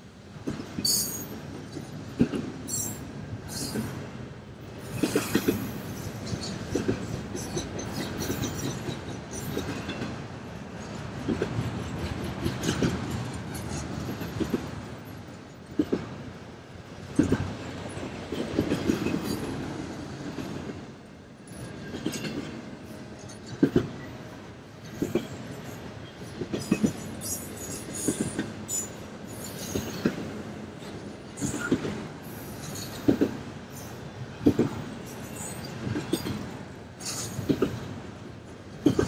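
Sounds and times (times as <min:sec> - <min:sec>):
continuous train rumble: 0:00.0 - 0:39.0
train wheels clacking over rail joints: 0:04.7 - 0:16.2, 0:17.0 - 0:24.1, 0:24.8 - 0:39.0.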